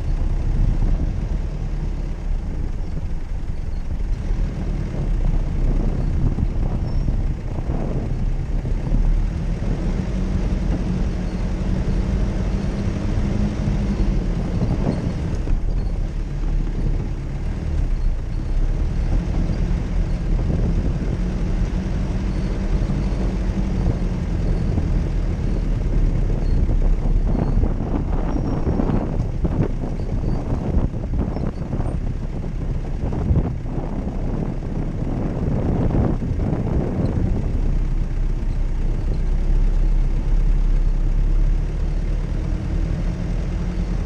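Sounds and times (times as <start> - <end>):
car engine revving under load: 0.0 - 44.0.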